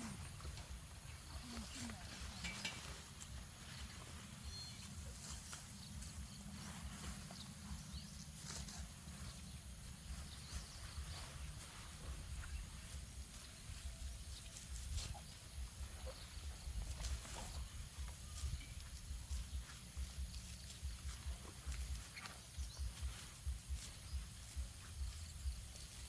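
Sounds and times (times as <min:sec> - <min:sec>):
sickle cutting grass: 0:00.0 - 0:26.0.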